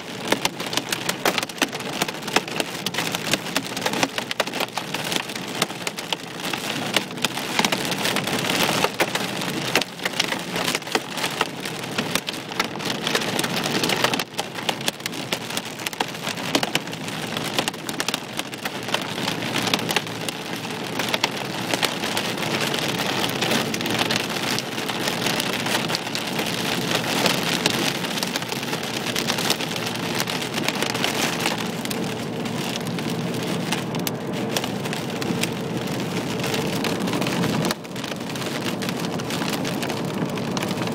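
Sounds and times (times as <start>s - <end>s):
hailstones drumming on car roof: 0.0s - 40.9s.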